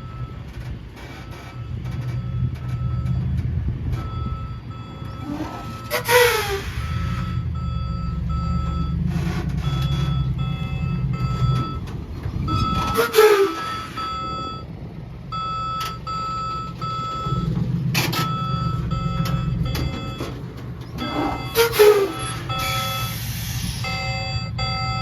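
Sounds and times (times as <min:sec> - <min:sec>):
diesel engine rumble: 0:00.0 - 0:25.0
reverse alarm beeping: 0:00.0 - 0:25.0.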